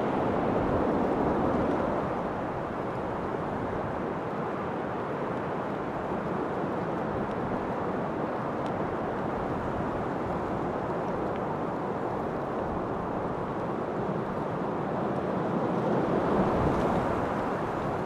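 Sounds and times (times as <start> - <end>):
steady wind: 0.0 - 18.0.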